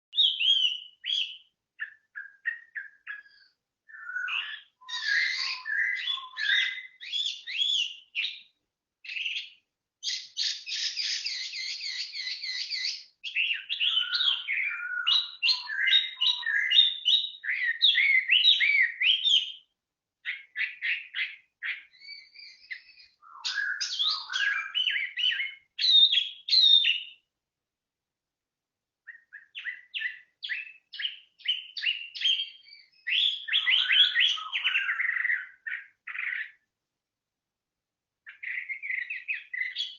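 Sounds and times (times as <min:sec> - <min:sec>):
songbird singing: 0:00.0 - 0:27.4, 0:29.0 - 0:36.8, 0:38.2 - 0:39.9.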